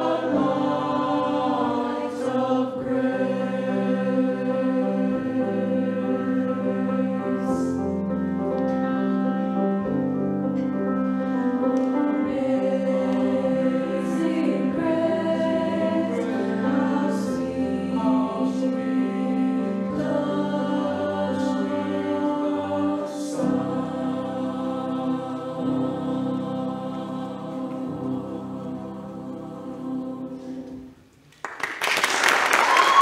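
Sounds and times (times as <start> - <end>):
choir singing sustained chords: 0.0 - 31.1.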